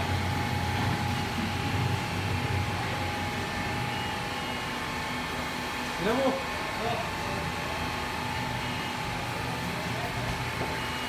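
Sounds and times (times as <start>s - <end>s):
filling machine humming: 0.0s - 11.0s.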